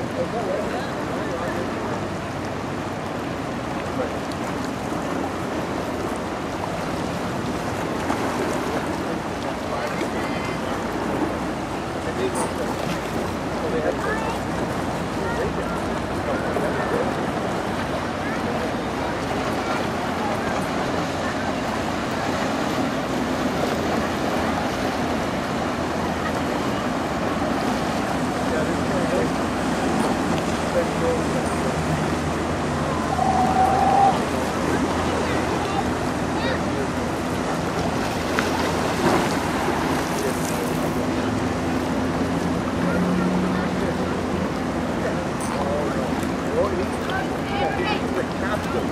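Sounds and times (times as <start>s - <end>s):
water rushing from passing ship: 0.0s - 48.9s.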